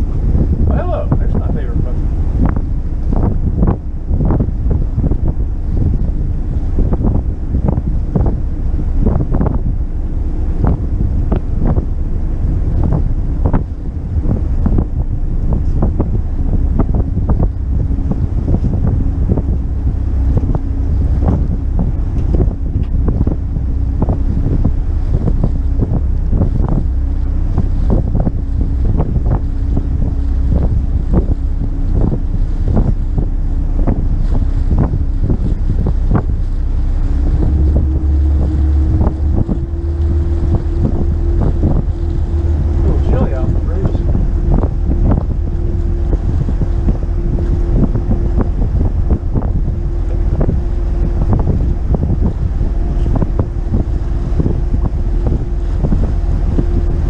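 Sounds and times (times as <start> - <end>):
low engine drone: 0.0 - 57.0
steady hum: 0.0 - 57.0
water slapping hull: 0.0 - 57.0
wind buffeting microphone: 0.0 - 57.0.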